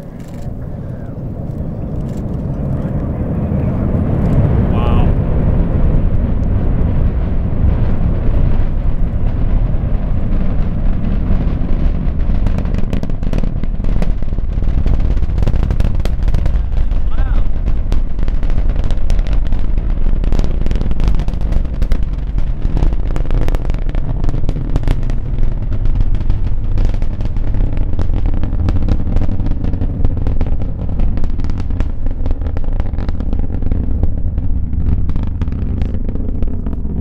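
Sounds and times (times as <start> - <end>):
rocket launch roar: 0.0 - 37.0.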